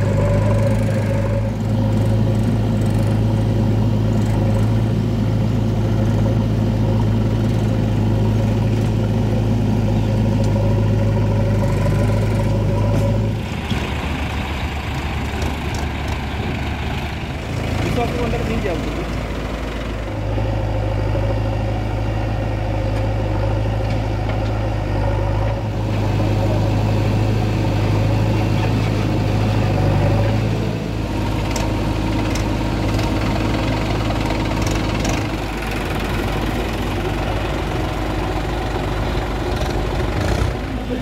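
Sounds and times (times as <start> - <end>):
diesel engines idling: 0.0 - 41.0.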